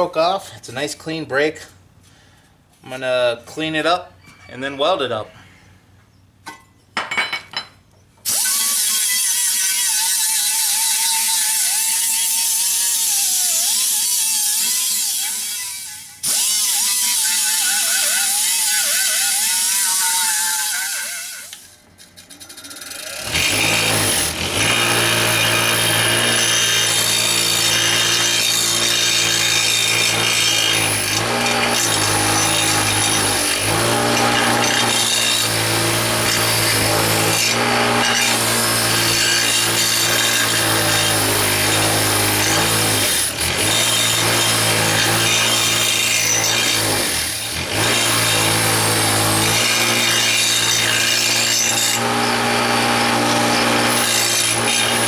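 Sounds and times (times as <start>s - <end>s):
power grinder grinding metal: 8.3s - 55.0s.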